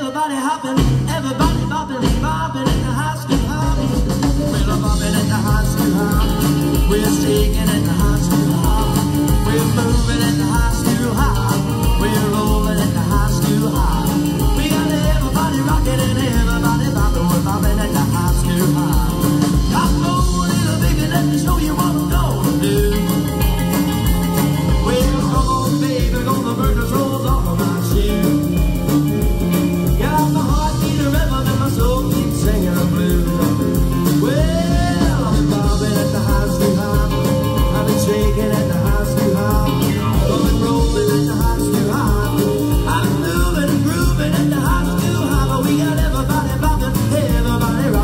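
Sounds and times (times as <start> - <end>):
rock and roll band playing: 0.0 - 48.0.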